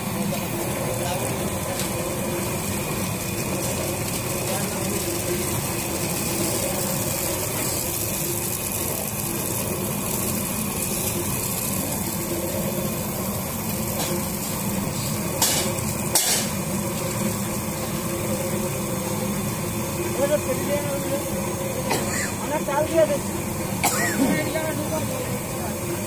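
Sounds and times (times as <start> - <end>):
puffed rice rattling in drum: 0.0 - 26.0.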